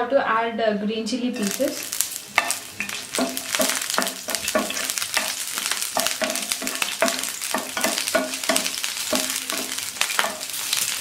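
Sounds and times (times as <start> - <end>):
chili frying in hot oil: 1.4 - 11.0
stirring strokes scraping pan: 1.4 - 11.0.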